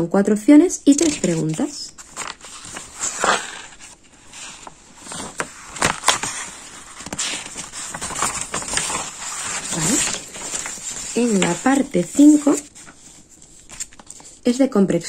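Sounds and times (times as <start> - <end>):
paper rustling and crinkling: 0.8 - 14.4.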